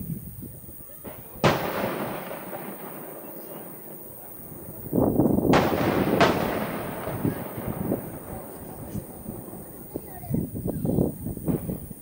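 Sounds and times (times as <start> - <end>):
echoing firework rumble: 0.6 - 12.0
firework bangs: 0.9 - 12.0.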